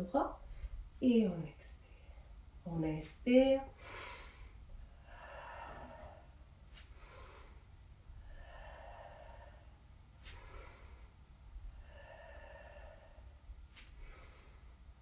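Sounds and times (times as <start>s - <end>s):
steady low hum: 0.0s - 15.0s
woman breathing: 1.8s - 2.6s, 3.7s - 15.0s.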